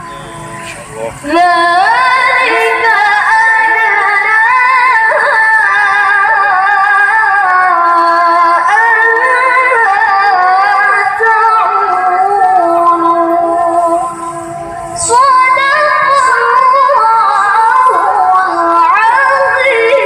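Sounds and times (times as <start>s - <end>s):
woman chanting melodic recitation: 1.2s - 14.4s, 15.0s - 20.0s.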